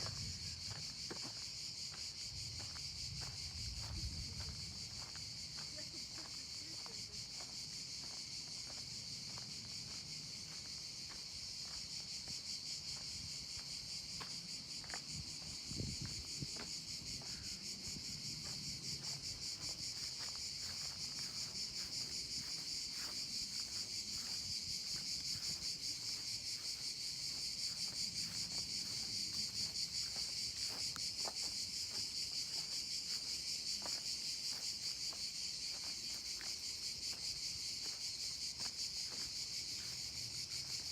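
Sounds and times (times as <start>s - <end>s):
buzzing insects chorus: 0.0s - 40.9s.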